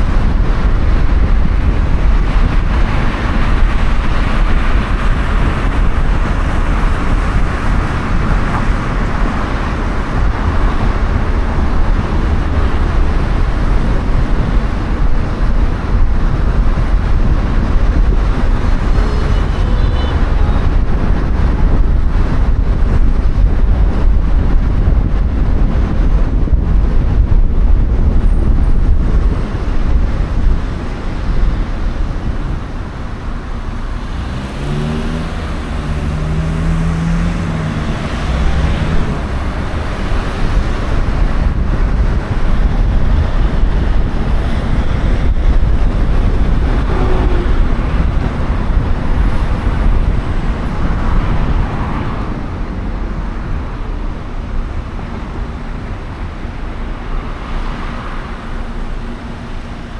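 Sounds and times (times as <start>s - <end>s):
car road and engine noise: 0.0s - 59.9s
surrounding traffic: 0.0s - 59.9s.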